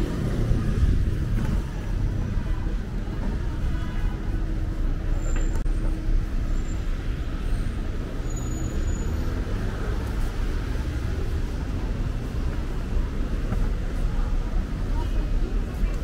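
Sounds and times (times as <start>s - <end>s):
low rumble of street traffic: 0.0s - 16.0s.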